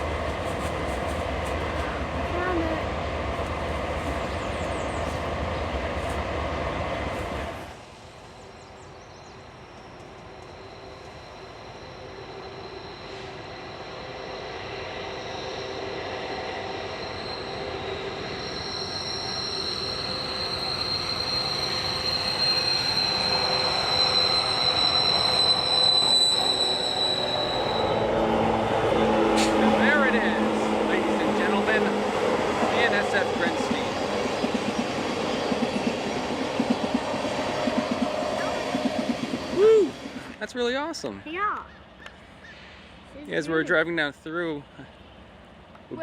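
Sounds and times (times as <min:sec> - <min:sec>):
train wheels squealing on rail: 0:00.0 - 0:07.8, 0:08.7 - 0:40.6.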